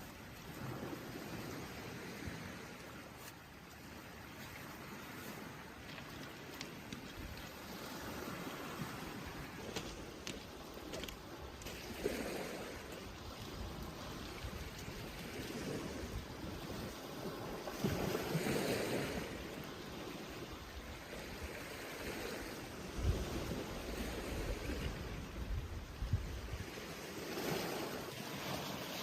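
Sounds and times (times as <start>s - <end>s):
rushing wind or water: 0.0s - 29.0s.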